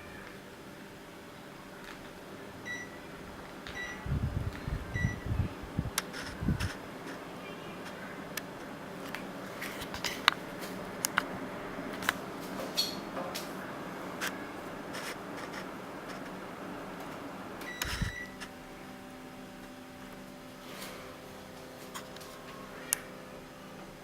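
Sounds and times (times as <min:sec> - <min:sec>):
air conditioner hiss: 0:00.0 - 0:24.0.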